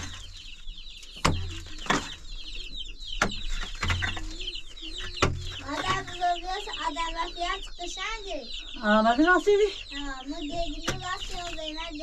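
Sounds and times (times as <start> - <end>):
chickens cheeping: 0.0 - 12.0.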